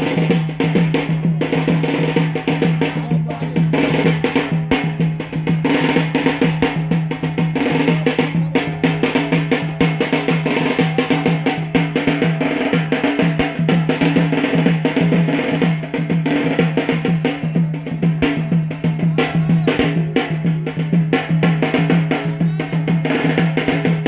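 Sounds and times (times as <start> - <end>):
drums playing fast rhythm: 0.0 - 24.0.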